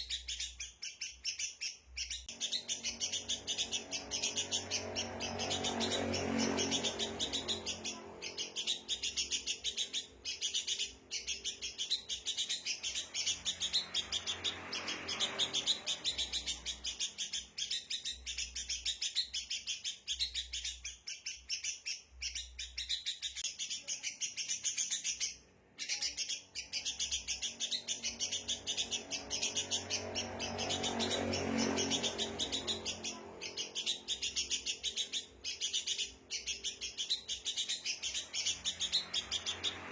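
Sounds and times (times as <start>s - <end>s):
birds chattering chorus: 0.0s - 39.9s.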